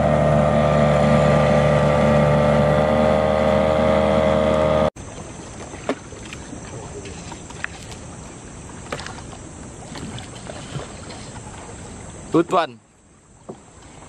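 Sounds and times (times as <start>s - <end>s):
outboard motor running: 0.0s - 12.6s.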